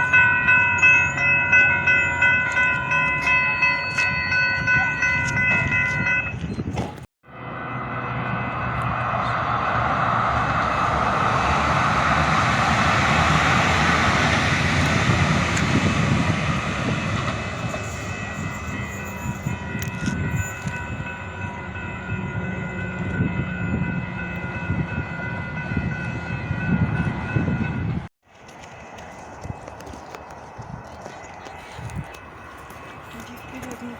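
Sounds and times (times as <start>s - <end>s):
vehicle rumble: 0.0s - 33.9s.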